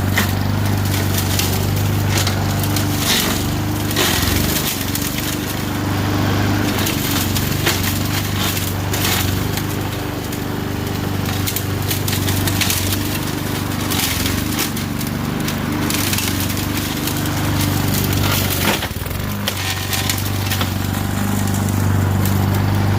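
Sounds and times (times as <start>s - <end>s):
brush cracking and splintering: 0.0s - 22.9s
small engine running: 0.0s - 22.9s.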